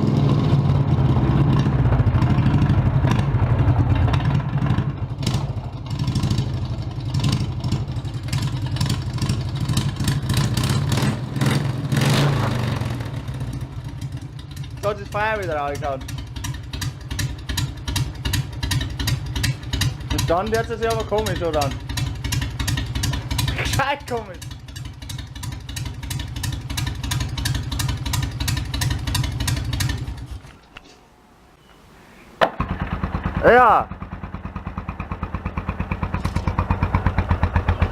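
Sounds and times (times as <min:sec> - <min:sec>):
small engine popping and clattering: 0:01.5 - 0:30.4, 0:32.4 - 0:37.9.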